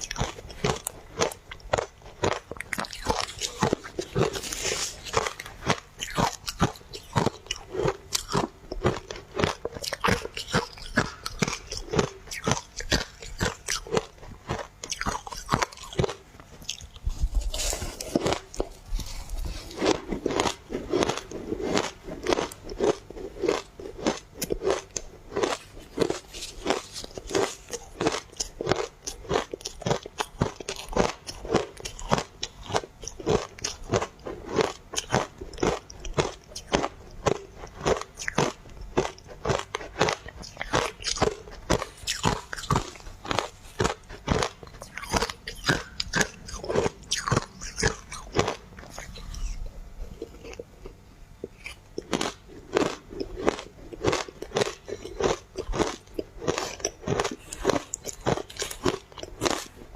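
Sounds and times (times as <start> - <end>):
crunching ice: 0.0 - 49.6, 51.6 - 59.8.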